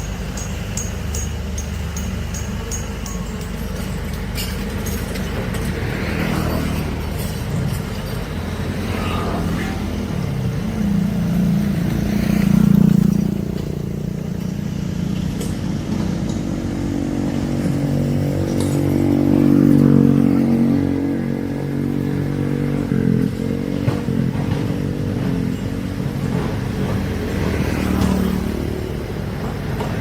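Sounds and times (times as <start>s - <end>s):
excavator diesel engine under load: 0.0s - 30.0s.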